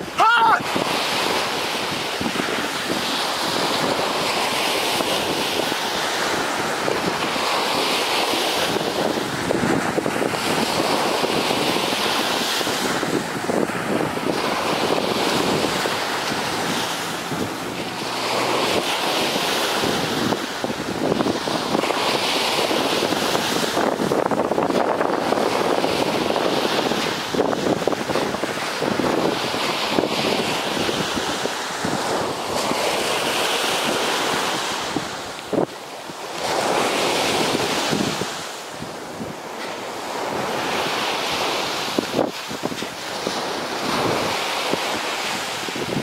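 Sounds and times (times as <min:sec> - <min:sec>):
surf washing onto beach: 0:00.0 - 0:46.0
wind on microphone: 0:00.0 - 0:46.0.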